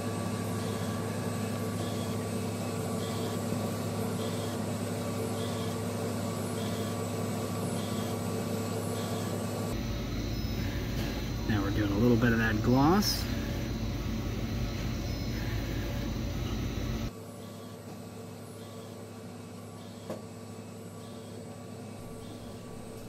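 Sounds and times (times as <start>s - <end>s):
printer machine hum: 0.0s - 23.0s.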